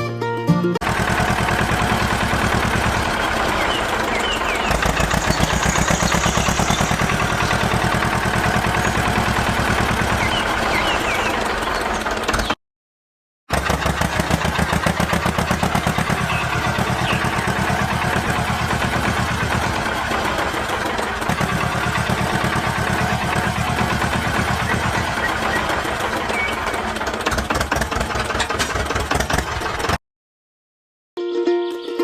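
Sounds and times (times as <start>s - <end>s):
engine chugging: 0.8s - 12.6s, 13.5s - 30.0s.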